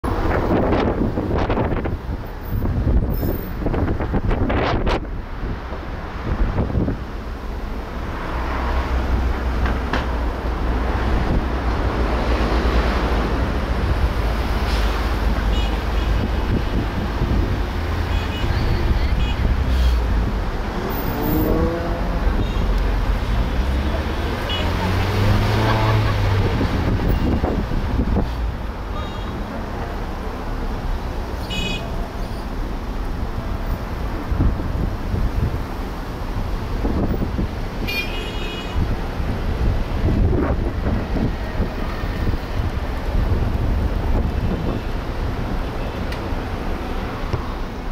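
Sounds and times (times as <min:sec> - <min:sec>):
wind rumbling on microphone: 0:00.0 - 0:28.9, 0:32.6 - 0:38.0, 0:38.7 - 0:47.9
road and traffic noise: 0:00.0 - 0:47.9.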